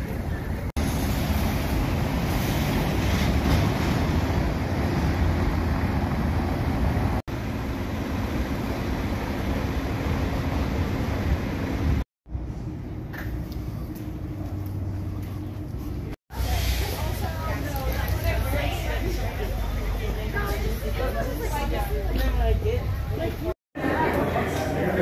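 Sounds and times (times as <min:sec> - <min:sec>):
city street noise with low rumble: 0:00.0 - 0:25.0.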